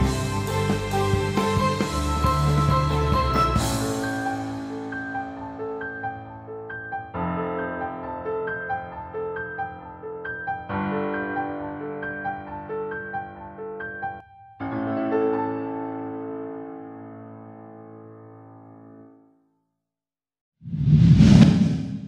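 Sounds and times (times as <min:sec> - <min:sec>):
gentle piano music: 0:00.0 - 0:19.2.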